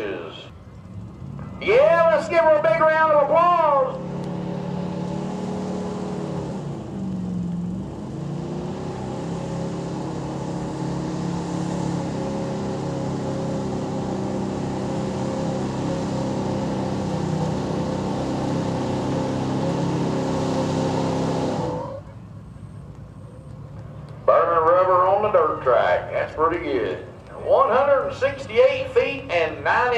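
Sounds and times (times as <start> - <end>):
truck engine revving under load: 0.0 - 25.8.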